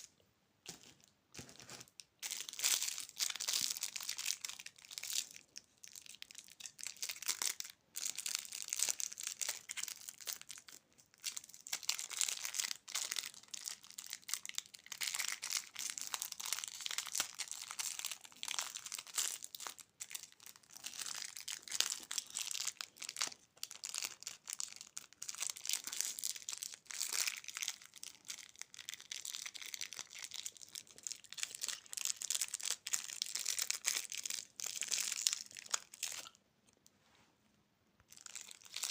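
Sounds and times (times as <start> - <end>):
plastic candy wrappers crinkling: 0.0 - 36.4, 38.1 - 38.9.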